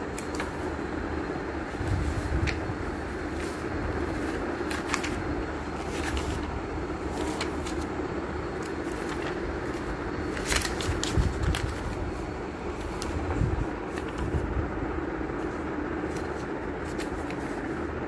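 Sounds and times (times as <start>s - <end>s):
book pages turning: 0.0s - 14.7s, 15.3s - 18.0s.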